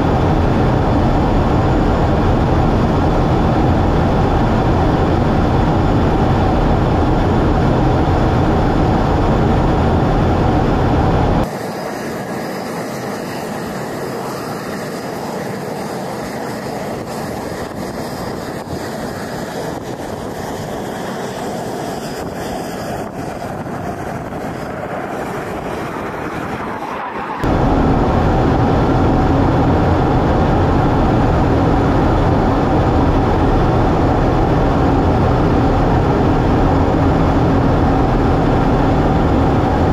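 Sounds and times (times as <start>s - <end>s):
jet engine noise in cockpit: 0.0s - 39.9s
jets flying overhead: 0.0s - 39.9s.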